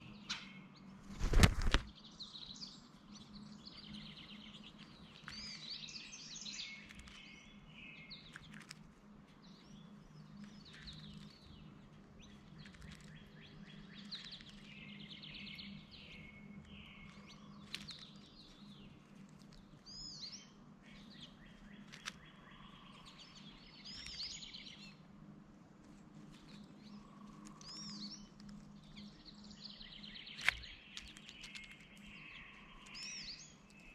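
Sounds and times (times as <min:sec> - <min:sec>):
birds chirping: 0:00.0 - 0:33.9
faint low hum: 0:00.0 - 0:33.9.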